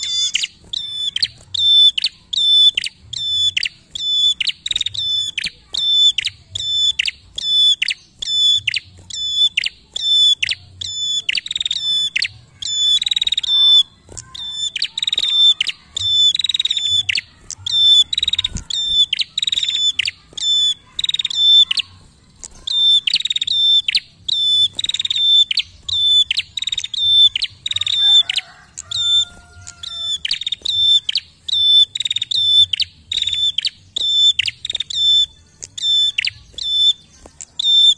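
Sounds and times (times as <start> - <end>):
bird singing sharp high notes: 0.0 - 37.9.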